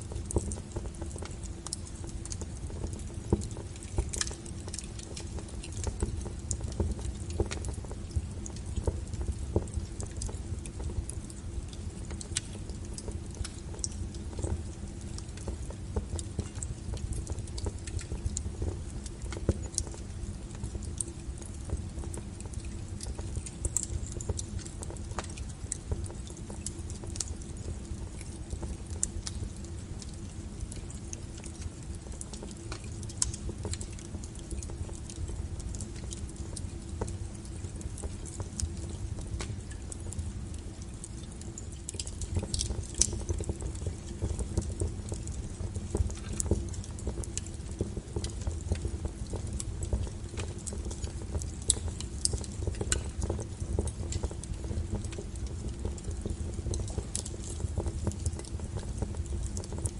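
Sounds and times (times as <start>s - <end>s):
firewood crackling and popping: 0.0s - 59.9s
flames rumbling: 0.0s - 59.9s.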